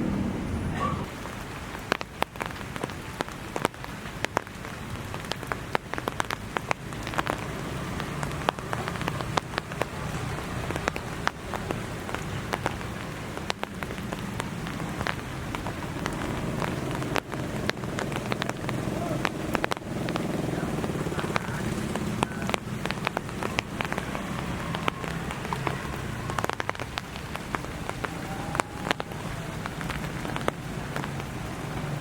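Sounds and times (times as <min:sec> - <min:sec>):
steady rain patter: 0:00.0 - 0:32.0
raindrops ticking on hard surface: 0:01.0 - 0:32.0.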